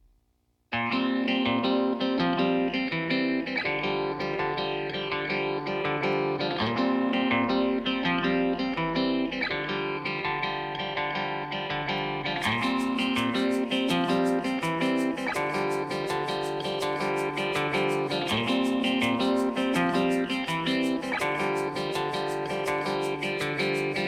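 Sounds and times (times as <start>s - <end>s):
plucked guitar music: 0.7s - 24.0s.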